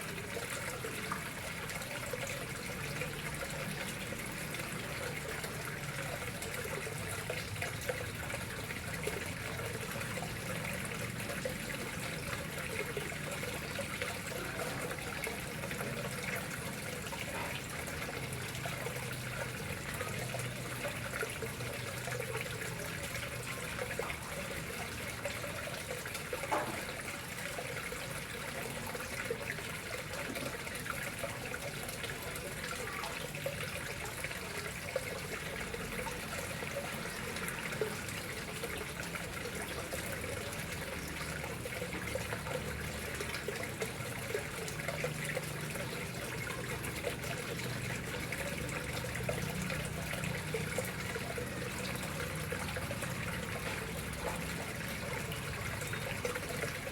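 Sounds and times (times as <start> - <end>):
water trickling into a pond: 0.0 - 56.9.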